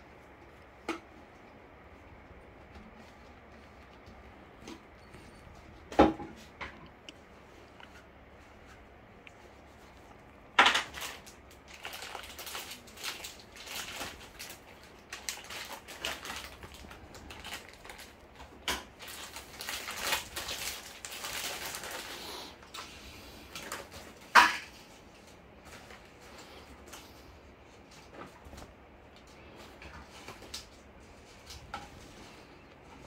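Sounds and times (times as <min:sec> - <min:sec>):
objects rustling and clattering: 0:00.0 - 0:33.0.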